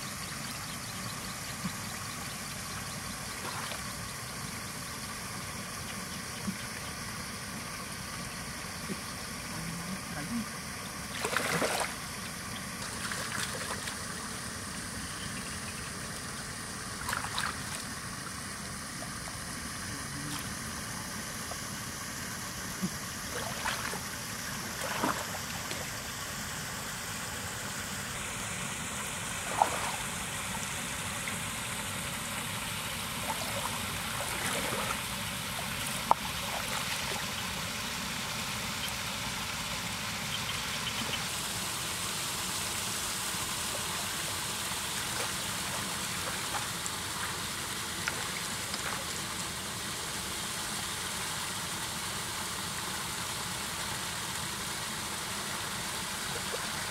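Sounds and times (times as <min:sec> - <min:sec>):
steady background hiss: 0:00.0 - 0:56.9.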